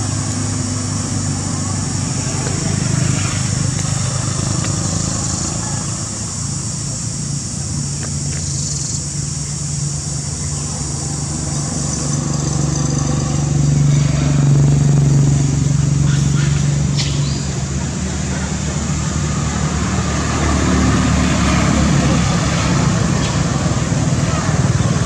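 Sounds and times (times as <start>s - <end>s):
motor engine running: 0.0s - 25.0s.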